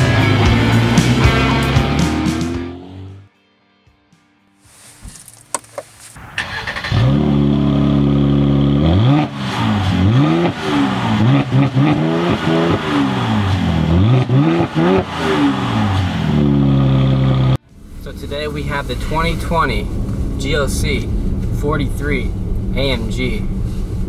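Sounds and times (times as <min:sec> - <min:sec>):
car engine starting and revving: 0:00.0 - 0:03.2, 0:06.0 - 0:24.0.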